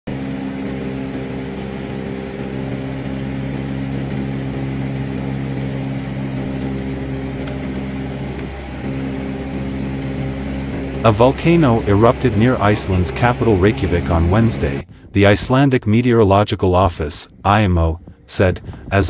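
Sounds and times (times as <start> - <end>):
aircraft engine drone: 0.0 - 19.0.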